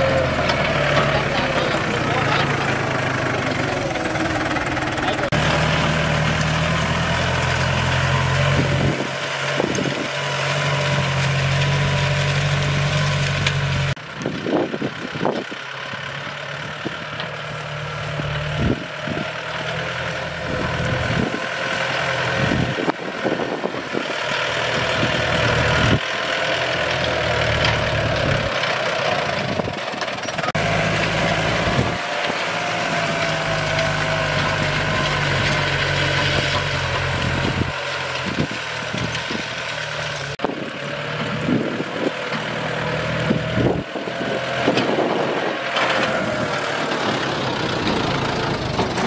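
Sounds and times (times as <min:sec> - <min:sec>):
tractor engine drone: 0:00.0 - 0:49.0.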